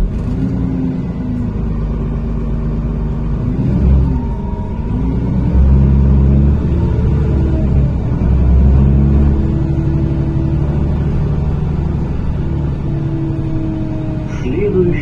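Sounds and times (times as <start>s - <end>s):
bus engine rumbling: 0.0s - 15.0s.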